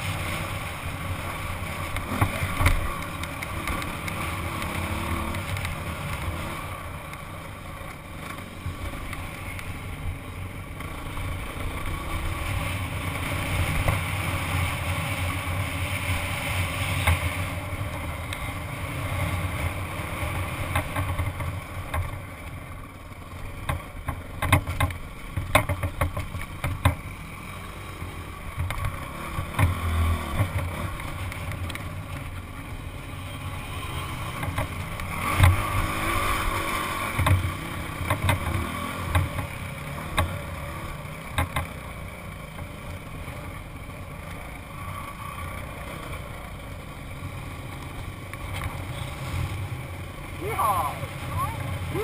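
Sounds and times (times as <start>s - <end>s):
dirt bike engine running: 0.0s - 52.0s.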